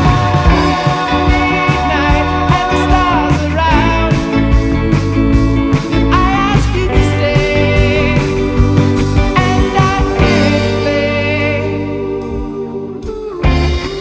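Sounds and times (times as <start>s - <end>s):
held guitar notes: 0.0s - 14.0s
rock band music with singing: 0.0s - 14.0s.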